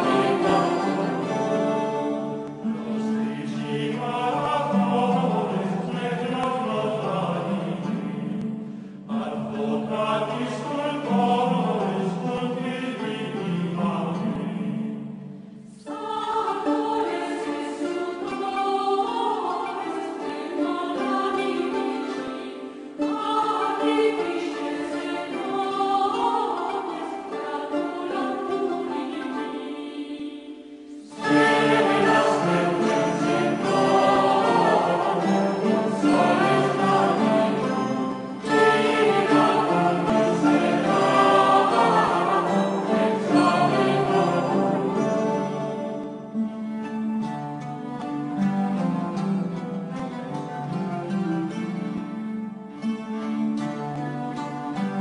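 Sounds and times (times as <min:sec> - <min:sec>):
choir singing: 0:00.0 - 0:47.2.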